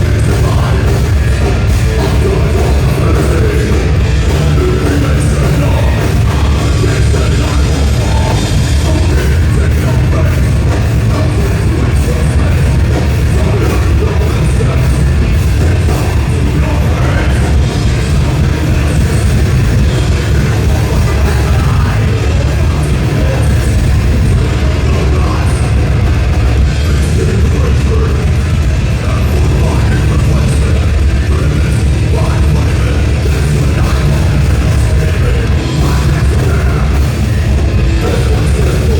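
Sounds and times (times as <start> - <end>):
bass guitar: 0.0 - 38.9
distorted electric guitars: 0.0 - 38.9
person singing: 0.0 - 38.9
pounding drum kit: 0.0 - 38.9.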